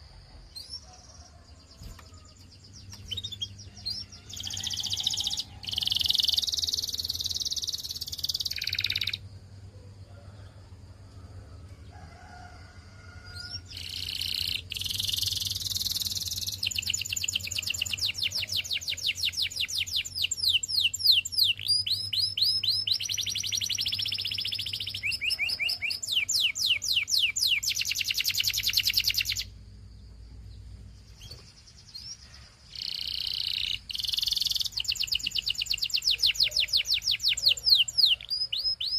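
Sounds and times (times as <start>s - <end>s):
canary singing trills: 0.0s - 9.3s, 13.3s - 29.6s, 30.5s - 38.9s
faint low hum: 0.0s - 38.9s.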